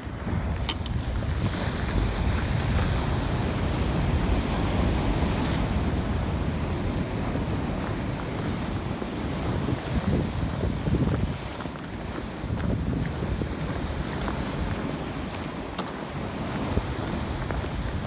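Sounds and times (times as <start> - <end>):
heavy surf: 0.0 - 18.0
wind rumbling on microphone: 0.0 - 18.0.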